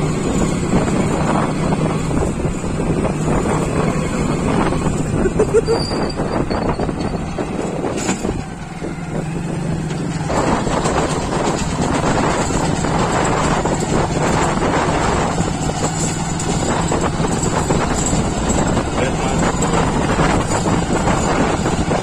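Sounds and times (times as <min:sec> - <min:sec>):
small vehicle engine running: 0:00.0 - 0:22.0
wind noise on microphone: 0:00.0 - 0:22.0.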